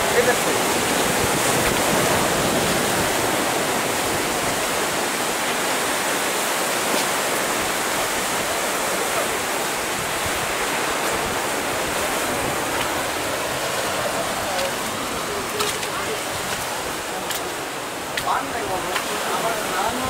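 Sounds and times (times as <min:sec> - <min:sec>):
surf washing over rocks: 0:00.0 - 0:20.0.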